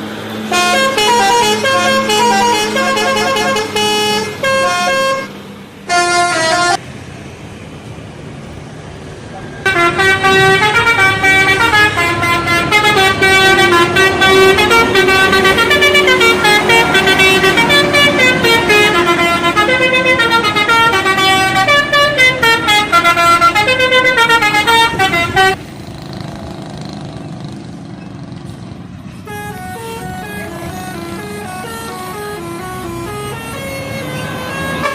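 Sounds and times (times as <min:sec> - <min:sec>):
bus air horn melody: 0:00.4 - 0:06.8, 0:09.6 - 0:25.6, 0:29.2 - 0:34.9.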